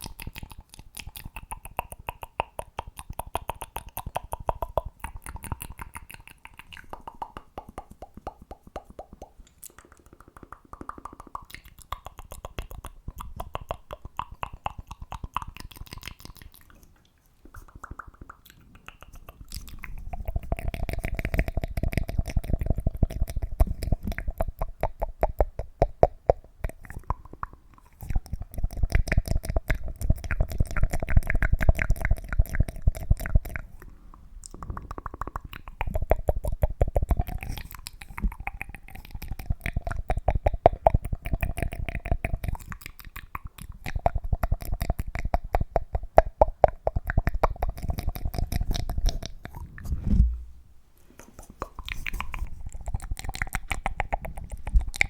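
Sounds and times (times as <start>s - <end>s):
asmr clicking and popping: 0.0s - 50.5s, 51.4s - 55.0s.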